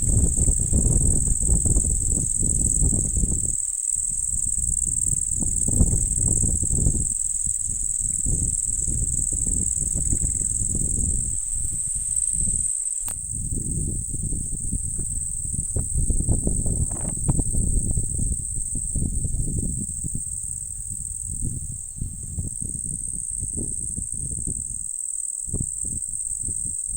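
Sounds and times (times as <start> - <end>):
wind buffeting microphone: 0.0 - 24.9, 25.5 - 26.9
insects trilling: 0.0 - 26.9.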